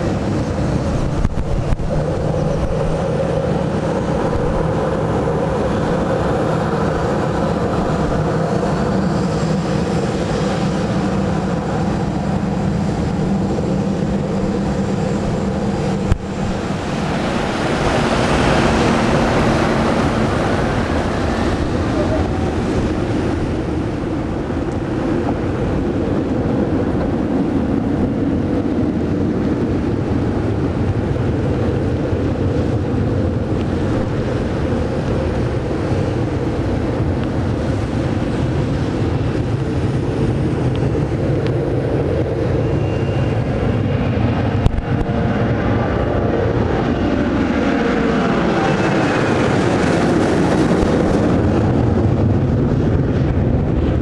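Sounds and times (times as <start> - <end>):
heavy rain: 0.0 - 54.0
jet engines running: 0.0 - 54.0.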